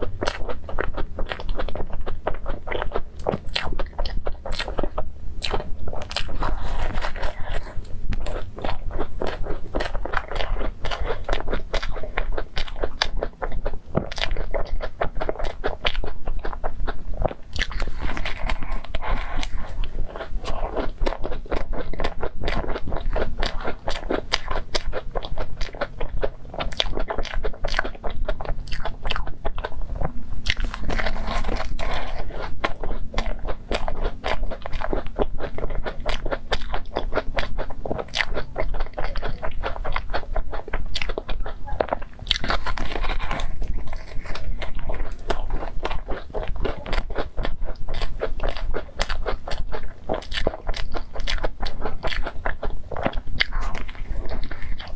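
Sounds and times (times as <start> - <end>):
chewing crunchy pastry: 0.0 - 54.9.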